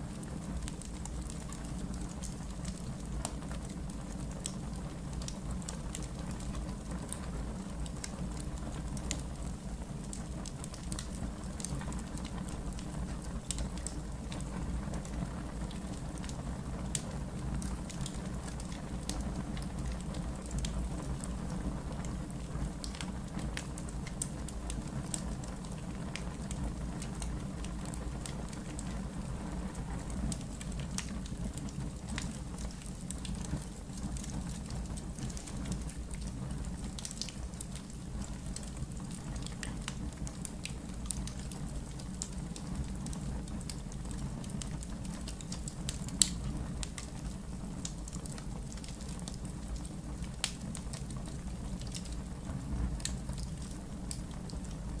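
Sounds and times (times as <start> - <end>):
log fire crackling and popping: 0.0 - 55.0.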